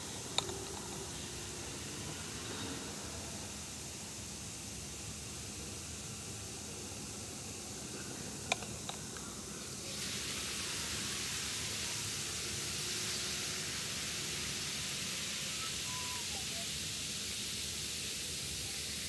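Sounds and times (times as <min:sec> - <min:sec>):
fizzing bubbles hissing: 0:00.0 - 0:19.0.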